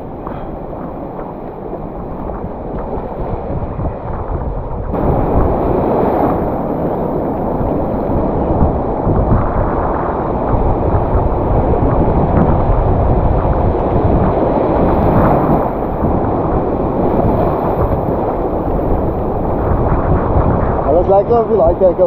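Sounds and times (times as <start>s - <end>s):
surf washing: 0.0s - 22.0s
wind buffeting microphone: 0.0s - 22.0s.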